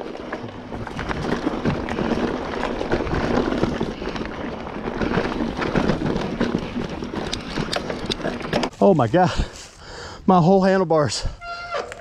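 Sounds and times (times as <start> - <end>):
bike clicks and rattles: 0.0 - 9.8
bike tyres rolling on dirt: 0.0 - 10.9.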